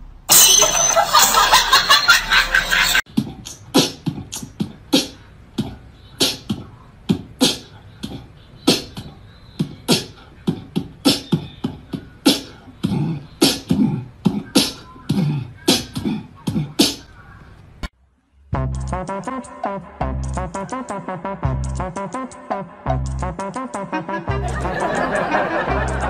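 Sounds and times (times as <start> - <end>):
beatboxed vocal percussion: 3.1 - 17.2, 18.6 - 26.0.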